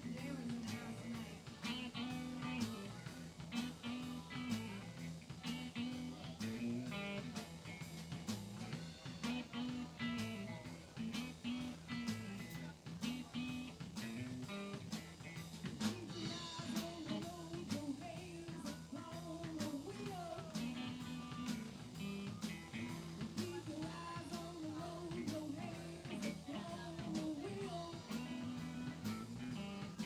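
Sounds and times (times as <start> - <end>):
bass guitar notes: 0.0 - 30.0
drum kit with snare and cymbals: 0.0 - 30.0
electric guitar: 0.0 - 30.0
live rock band playing: 0.0 - 30.0.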